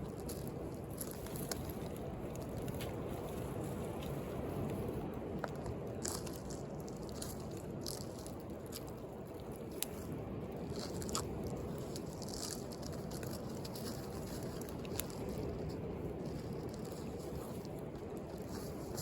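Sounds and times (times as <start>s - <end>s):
wood bonfire crackling: 0.0s - 19.0s.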